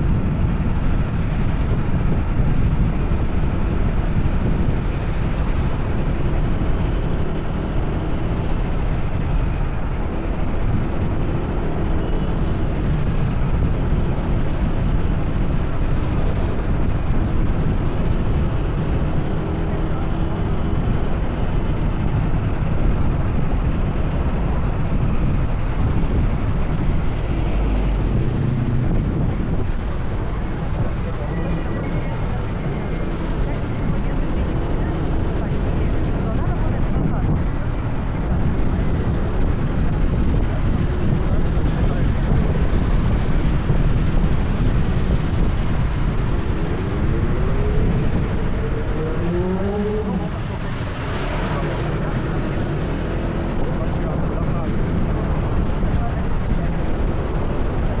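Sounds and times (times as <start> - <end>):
scooter running with road noise: 0.0 - 58.0
wind rushing over microphone: 0.0 - 58.0
faint rising engine whine: 4.2 - 38.4, 43.5 - 56.6.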